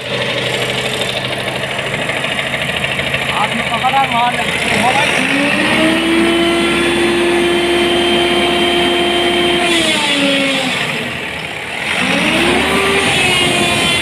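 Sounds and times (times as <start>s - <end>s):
crane engine whining: 0.0s - 14.0s.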